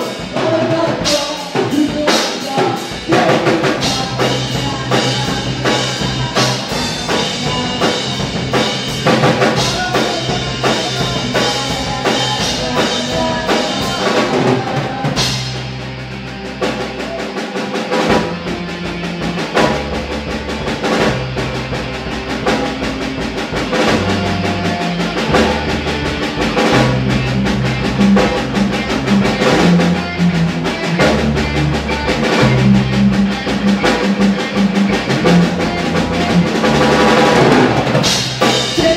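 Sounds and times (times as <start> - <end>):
drum kit: 0.0 - 38.9
electric bass line: 0.0 - 38.9
electric guitar: 0.0 - 38.9.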